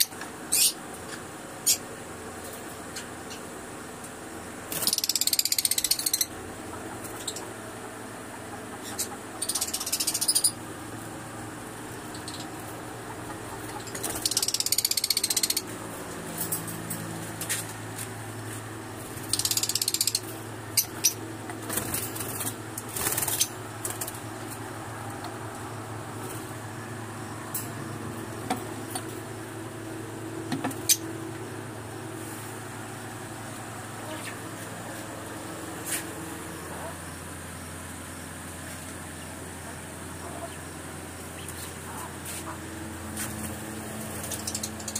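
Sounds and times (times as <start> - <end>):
lovebirds chattering: 0.0 - 2.0, 4.6 - 16.8, 18.2 - 30.0, 30.7 - 31.9, 32.7 - 44.9
steady low hum: 0.0 - 44.9.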